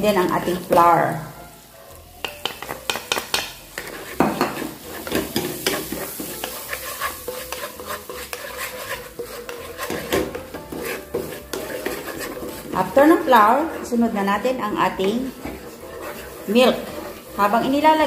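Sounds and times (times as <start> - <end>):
butter sizzling: 0.0 - 18.0
spatula tapping pan: 2.2 - 17.8
wooden spatula scraping pan: 2.4 - 18.0.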